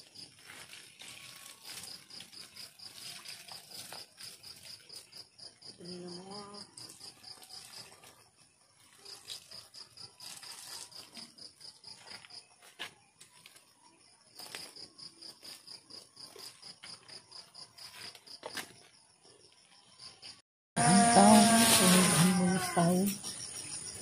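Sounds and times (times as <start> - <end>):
cricket chirping: 1.4 - 24.0.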